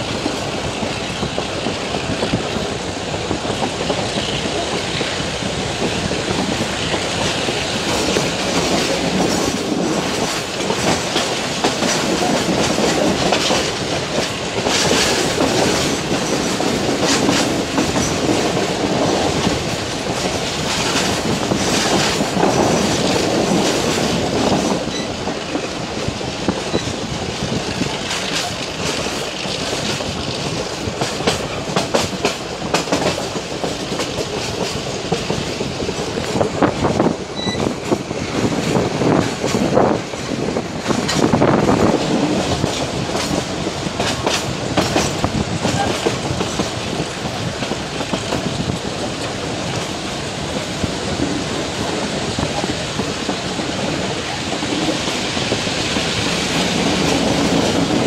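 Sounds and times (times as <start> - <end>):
train rumbling on board: 0.0 - 58.0
wheels clattering over rail joints: 0.0 - 58.0.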